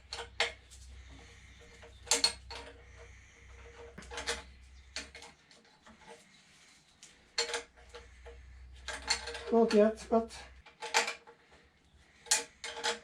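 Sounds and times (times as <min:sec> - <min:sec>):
metal tools clinking: 0:00.0 - 0:06.3, 0:07.3 - 0:11.5, 0:12.2 - 0:13.0.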